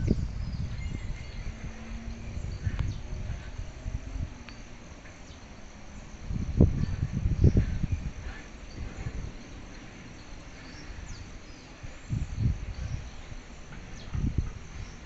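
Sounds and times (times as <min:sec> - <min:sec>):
crickets chirping: 0:00.0 - 0:15.0
low rumbles: 0:00.0 - 0:15.0.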